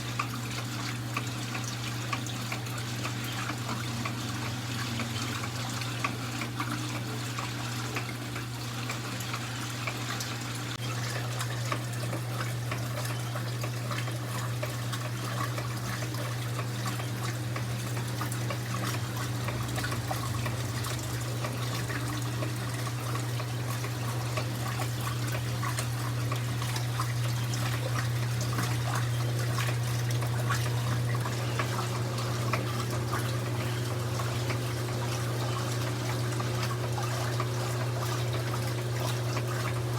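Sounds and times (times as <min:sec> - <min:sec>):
washing machine hum: 0:00.0 - 0:39.9
water splashing in washing machine: 0:00.0 - 0:39.9.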